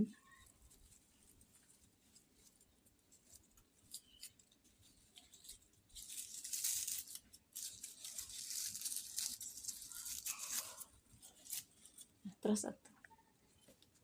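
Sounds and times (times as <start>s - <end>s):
rustling of plants and soil: 0.0s - 12.7s.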